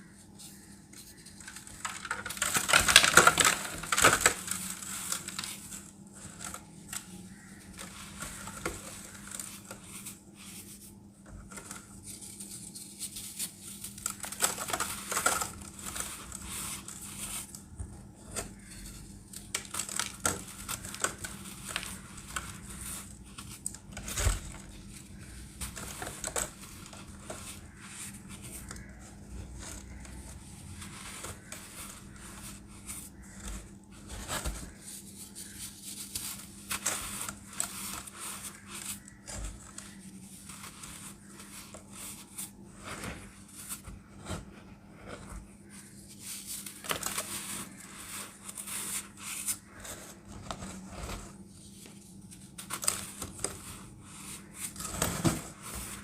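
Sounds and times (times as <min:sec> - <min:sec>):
crinkling and crushing: 0:00.0 - 0:56.0.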